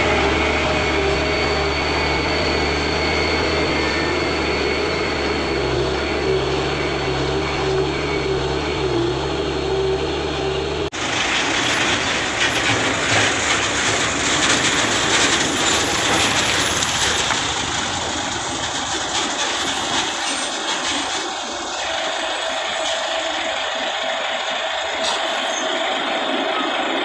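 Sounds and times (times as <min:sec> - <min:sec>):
hissing rush of vehicles: 0:00.0 - 0:27.0
truck engines under load: 0:00.0 - 0:27.0.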